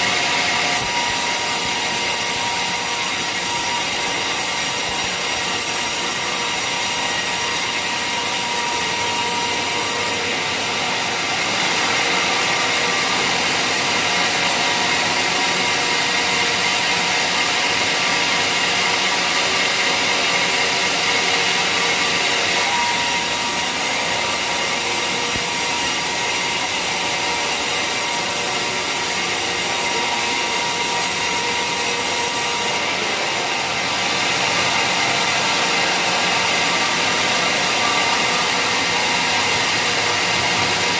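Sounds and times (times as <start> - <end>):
sawmill saw cutting timber: 0.0 - 40.9.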